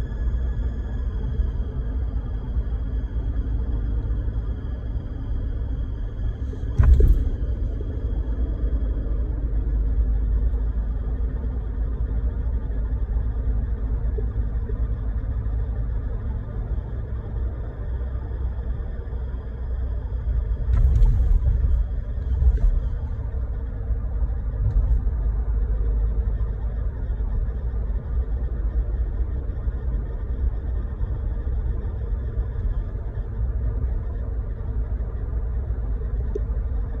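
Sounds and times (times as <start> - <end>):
high-pitched transmission whine: 0.0 - 37.0
truck driving low rumble: 0.0 - 37.0.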